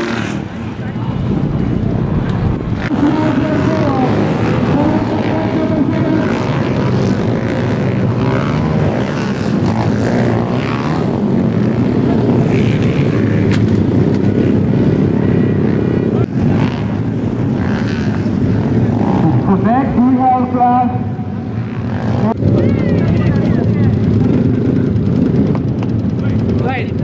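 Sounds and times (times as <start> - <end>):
dirt bike engines droning: 0.0 - 27.0.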